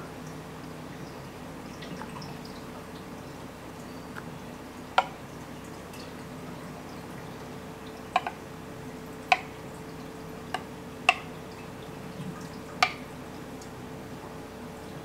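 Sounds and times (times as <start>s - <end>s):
faint steady hum: 0.0s - 15.0s
milk plinks and drips: 1.7s - 14.4s.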